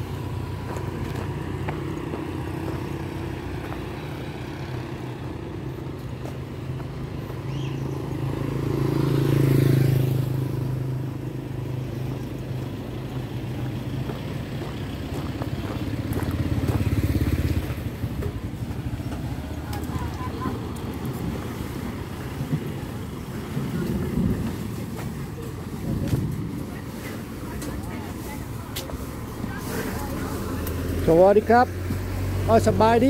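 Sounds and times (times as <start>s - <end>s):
motor scooters and cars passing: 0.0s - 33.0s
vehicle passing close: 0.0s - 33.0s.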